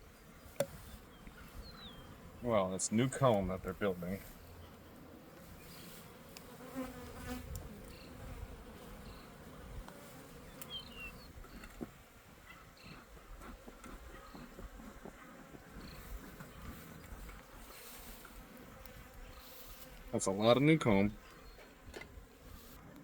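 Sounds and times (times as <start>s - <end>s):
honeybees buzzing: 0.0s - 22.8s.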